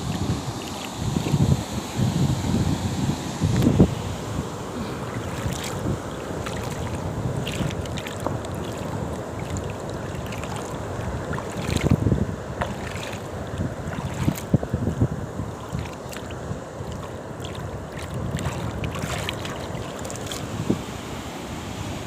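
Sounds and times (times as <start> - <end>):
wind buffeting microphone: 0.0 - 21.0
sea surf: 0.0 - 22.0.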